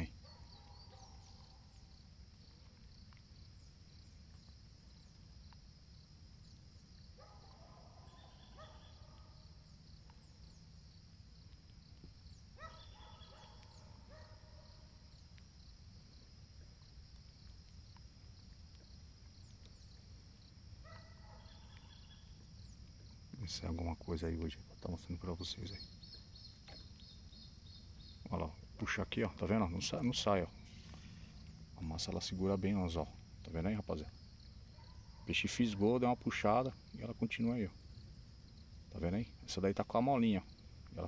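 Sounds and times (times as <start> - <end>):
insect trill: 0.0 - 41.0.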